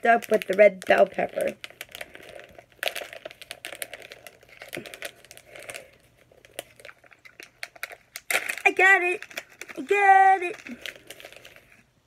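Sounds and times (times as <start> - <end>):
plastic snack bag crinkling: 0.0 - 12.0.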